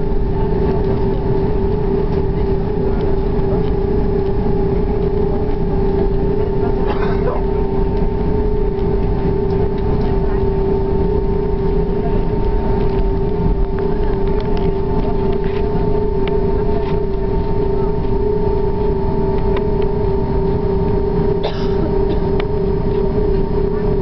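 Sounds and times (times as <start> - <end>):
airplane cabin engine hum: 0.0 - 24.0.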